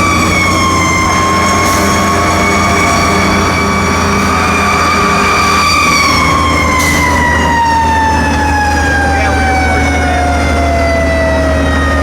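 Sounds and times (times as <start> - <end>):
fire truck siren: 0.0 - 12.0
truck engine hum: 0.0 - 12.0.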